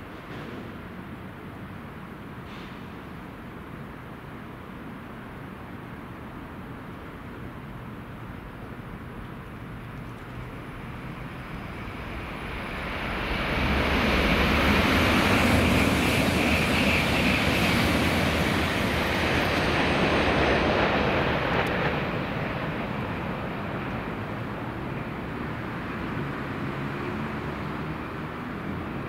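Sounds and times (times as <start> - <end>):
high-speed train passing: 0.0 - 29.0.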